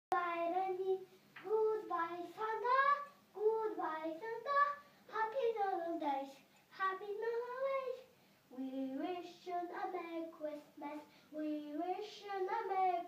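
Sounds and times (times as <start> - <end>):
young child singing: 0.1 - 13.0.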